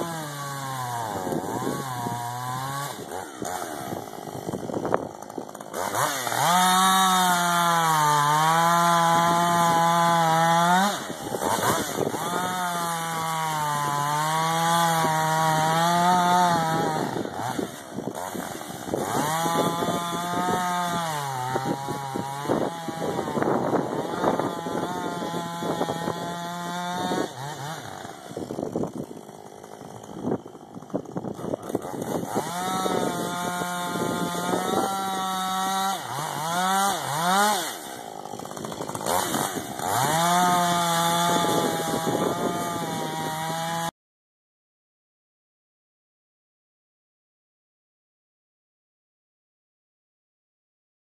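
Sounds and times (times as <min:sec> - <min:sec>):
chainsaw cutting wood: 0:00.0 - 0:44.0.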